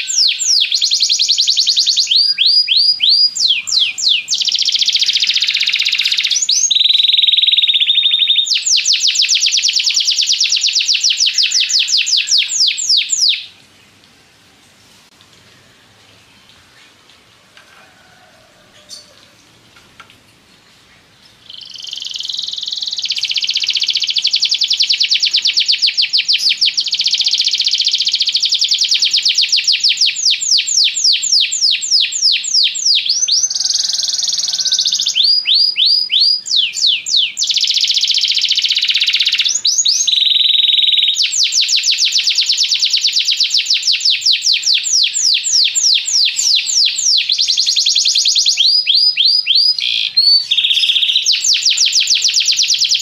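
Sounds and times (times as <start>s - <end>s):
canary singing trills: 0.0s - 14.0s, 21.4s - 53.0s.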